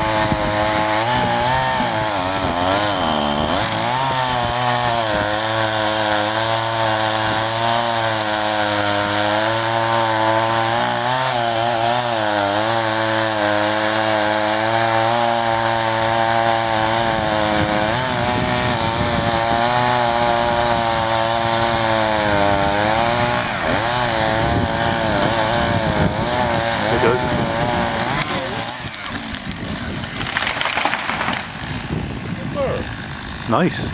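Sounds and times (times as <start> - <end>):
chainsaw cutting wood: 0.0 - 33.8.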